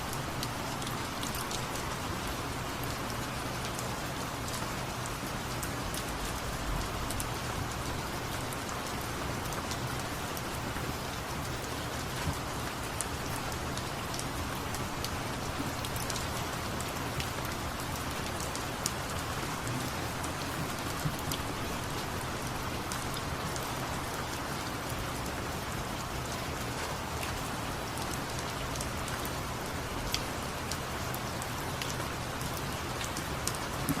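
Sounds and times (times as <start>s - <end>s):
steady rain: 0.0s - 34.0s.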